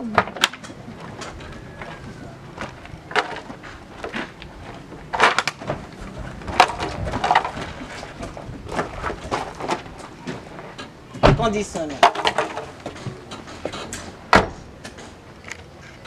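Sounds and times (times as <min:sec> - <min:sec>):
knocks of people climbing into truck: 0:00.0 - 0:15.2.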